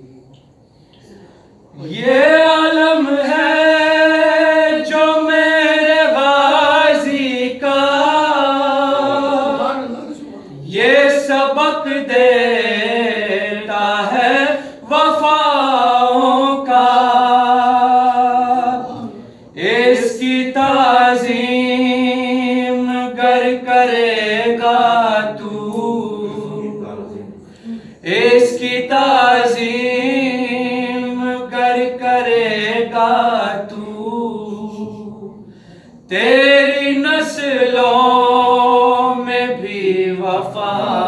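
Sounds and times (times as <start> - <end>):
man singing unaccompanied: 1.8 - 27.4, 28.0 - 35.5, 36.1 - 41.0.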